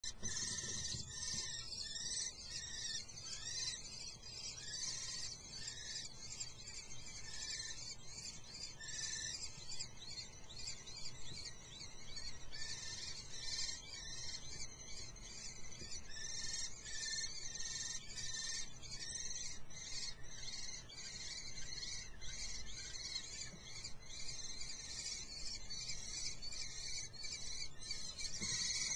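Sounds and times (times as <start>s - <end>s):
nestlings begging calls: 0.0s - 28.9s.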